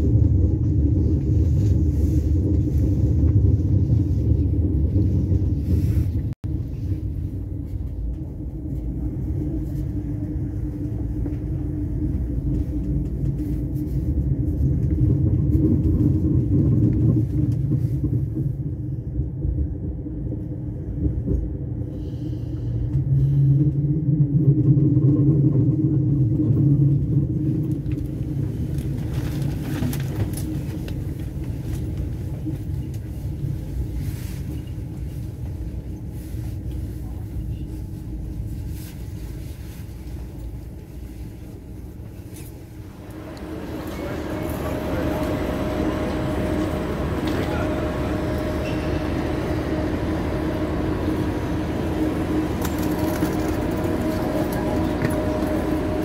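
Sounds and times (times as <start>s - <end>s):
low hum: 0.0s - 56.0s
train rumbling: 0.0s - 56.0s.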